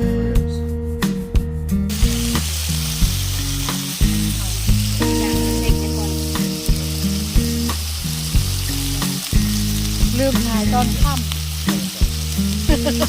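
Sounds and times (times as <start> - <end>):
background music with beat: 0.0 - 13.0
food sizzling in hot oil: 1.9 - 13.0.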